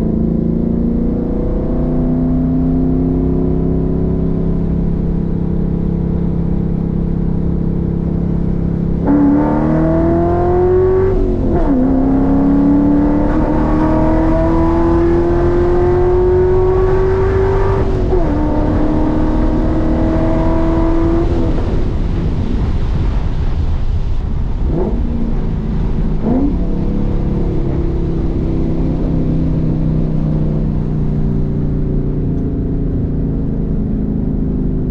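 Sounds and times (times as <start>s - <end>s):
car engine revving and upshifting: 0.0s - 23.2s, 24.2s - 34.9s.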